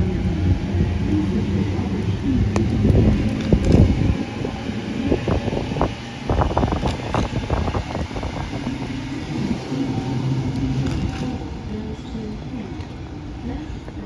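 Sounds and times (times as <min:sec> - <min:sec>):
electric train rumbling and humming: 0:00.0 - 0:14.0.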